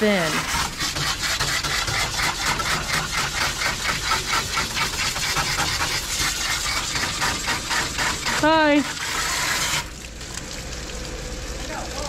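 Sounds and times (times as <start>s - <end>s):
pulsing water spray hiss: 0.0s - 10.2s.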